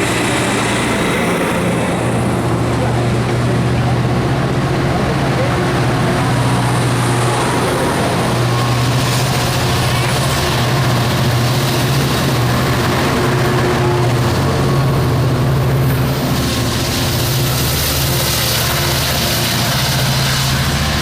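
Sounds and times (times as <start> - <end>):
diesel locomotive engine humming: 0.0 - 21.0.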